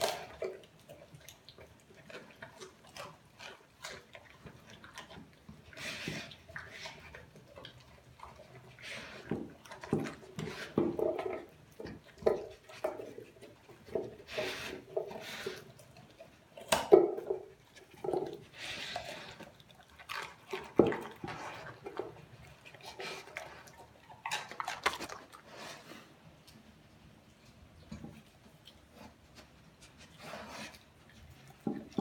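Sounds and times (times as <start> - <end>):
dog chewing and lapping: 0.0 - 32.0.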